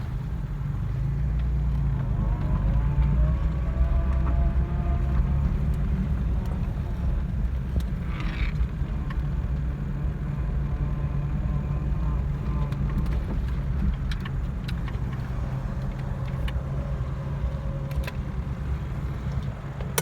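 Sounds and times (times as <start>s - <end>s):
car engine running at low speed: 0.0s - 20.0s.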